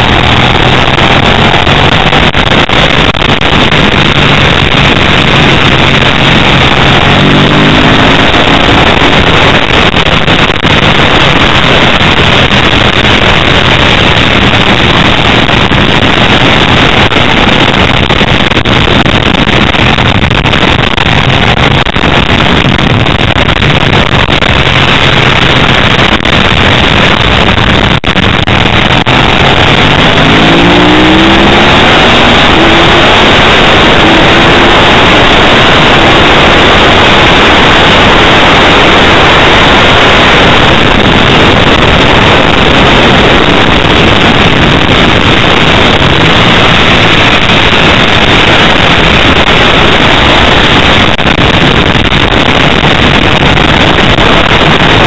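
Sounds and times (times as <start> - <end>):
motorcycle engine at race speed: 0.0 - 55.0
wind rush on microphone: 0.0 - 55.0.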